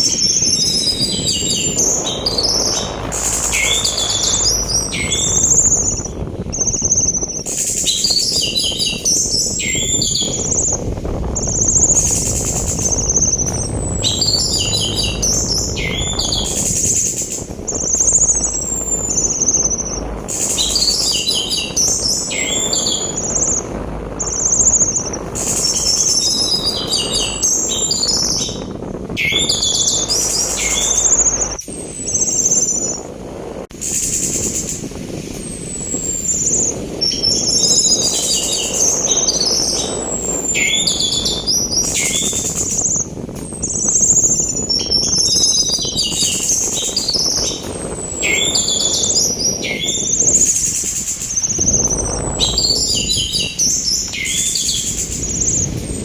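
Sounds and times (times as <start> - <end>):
rushing sea wind: 0.0 - 56.0
thrush singing: 0.0 - 56.0.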